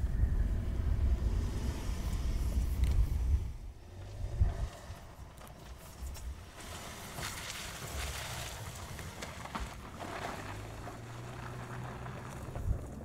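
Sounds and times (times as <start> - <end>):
car engine and tyres on rocks: 0.1 - 13.0.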